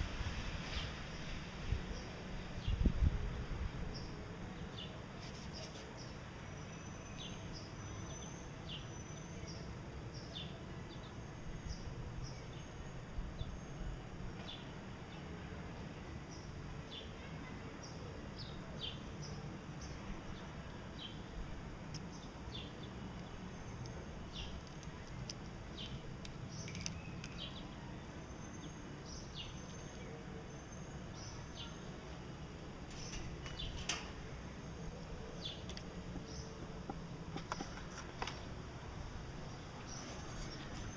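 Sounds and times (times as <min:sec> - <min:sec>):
steady low hum: 0:05.9 - 0:40.9.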